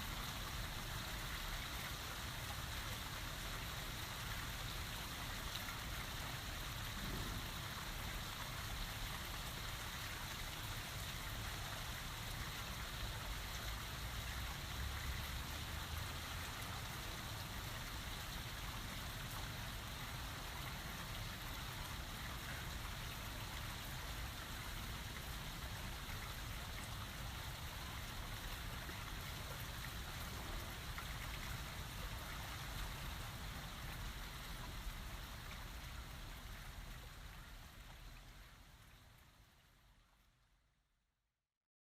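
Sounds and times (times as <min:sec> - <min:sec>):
steady rain falling: 0:00.0 - 0:40.6.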